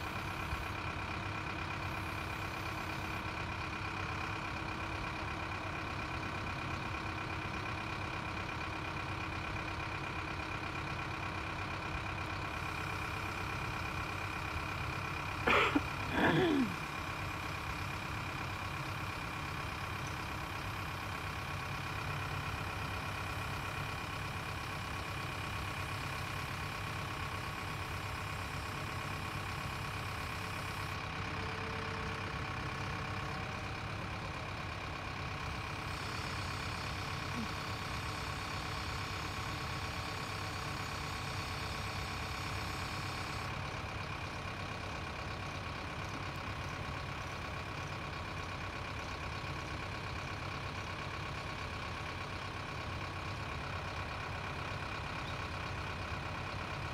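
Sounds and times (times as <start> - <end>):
heavy machinery engine idling: 0.0 - 56.9.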